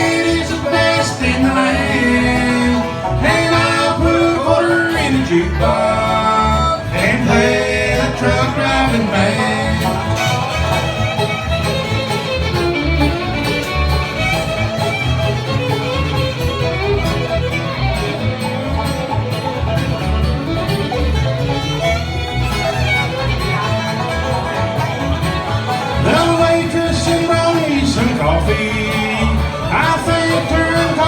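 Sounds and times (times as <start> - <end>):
fiddle playing lead: 0.0 - 31.0
guitar: 0.0 - 31.0.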